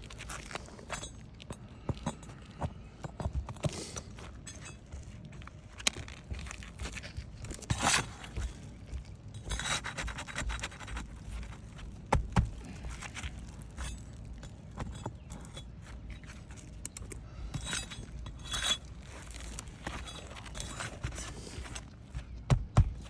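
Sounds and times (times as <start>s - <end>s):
tool scraping under roof shingles: 0.0s - 23.0s.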